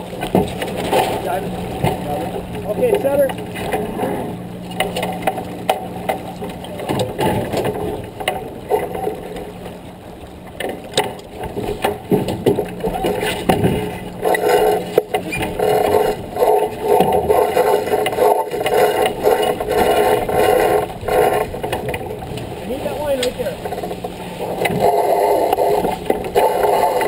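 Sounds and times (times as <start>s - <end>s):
boat gear knocking and rattling: 0.0s - 27.0s
rushing rumble: 0.0s - 27.0s
steady low hum: 0.0s - 27.0s
water and wind noise: 0.0s - 27.0s.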